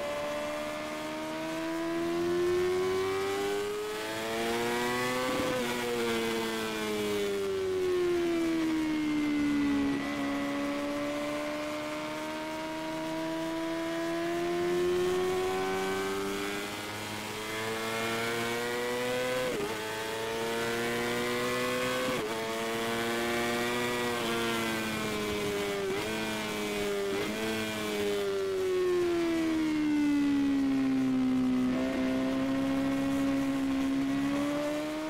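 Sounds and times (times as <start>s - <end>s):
sportbike engine at speed: 0.0s - 35.0s.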